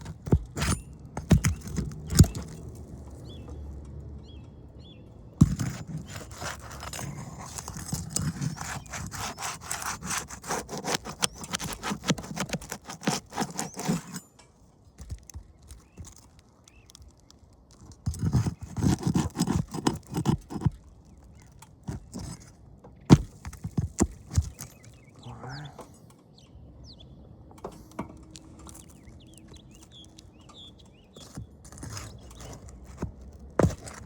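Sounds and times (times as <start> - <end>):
tool scraping under shingles: 0.0 - 3.6, 5.3 - 25.2, 27.6 - 34.0.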